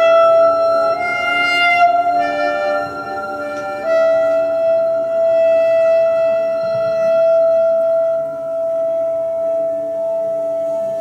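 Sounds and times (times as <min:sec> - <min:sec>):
bowed cymbal ringing: 0:00.0 - 0:11.0
clarinet playing: 0:00.0 - 0:11.0.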